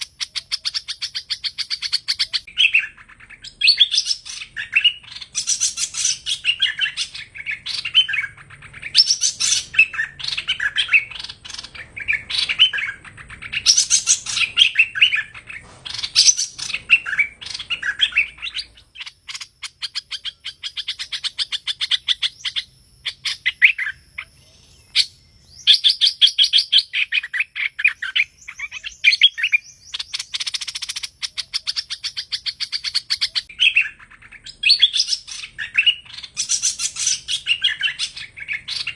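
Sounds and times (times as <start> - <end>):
bird singing chattering trills: 0.0 - 38.9.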